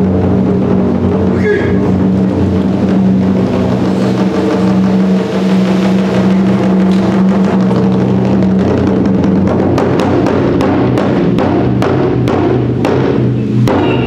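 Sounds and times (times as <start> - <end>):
drum ensemble rolling drone: 0.0 - 14.0.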